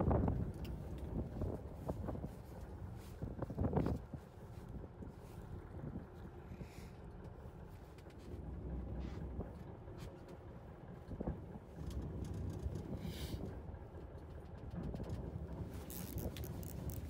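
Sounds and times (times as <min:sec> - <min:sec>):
boat engine rumble: 0:00.0 - 0:17.0
wind: 0:00.0 - 0:17.0.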